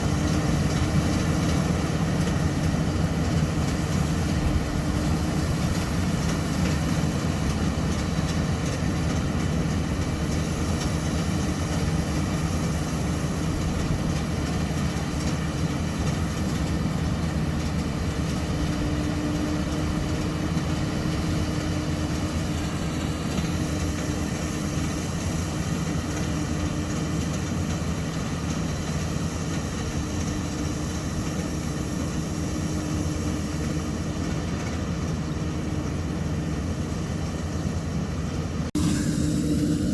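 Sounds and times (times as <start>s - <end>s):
engine hum: 0.0s - 39.9s
threshing machinery noise: 0.0s - 39.9s.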